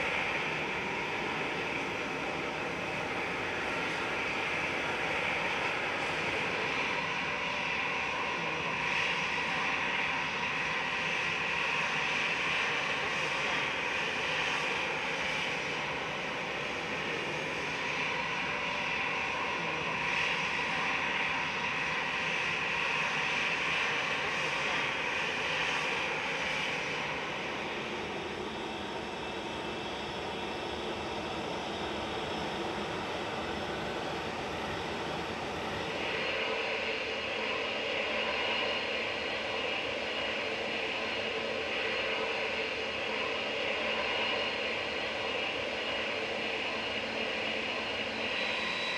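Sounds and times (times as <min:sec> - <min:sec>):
airliner engines running: 0:00.0 - 0:48.9.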